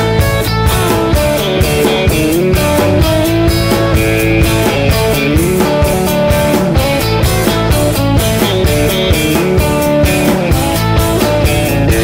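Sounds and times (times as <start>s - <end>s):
bass: 0.0s - 12.0s
lead guitar bending notes: 0.0s - 12.0s
steady drum beat: 0.0s - 12.0s.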